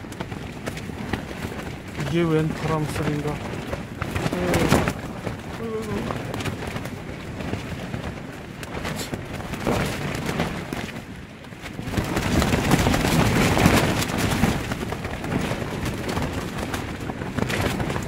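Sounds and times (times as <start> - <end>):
strong wind buffeting tent: 0.0 - 18.0
tent fabric flapping and snapping: 0.0 - 18.0.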